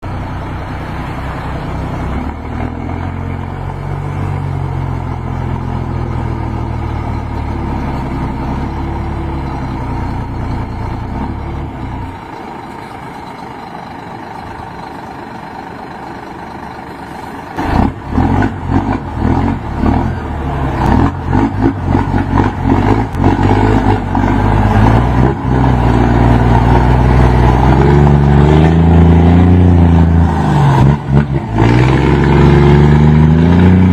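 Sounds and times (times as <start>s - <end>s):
diesel truck engine accelerating: 0.0s - 33.9s.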